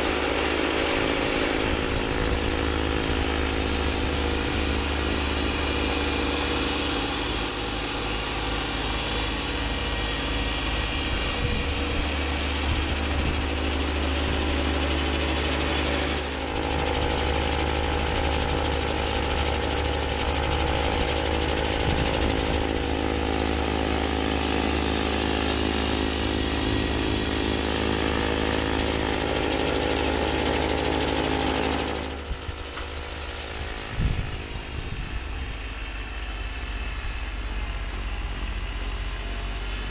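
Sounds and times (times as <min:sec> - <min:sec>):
snowblower chewing through snow: 0:00.0 - 0:39.9
tractor diesel engine running: 0:00.0 - 0:39.9.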